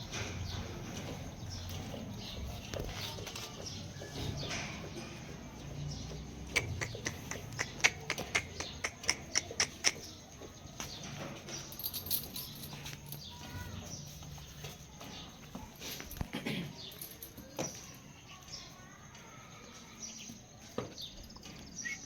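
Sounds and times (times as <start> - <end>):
donkey hooves clopping: 0.0 - 18.0.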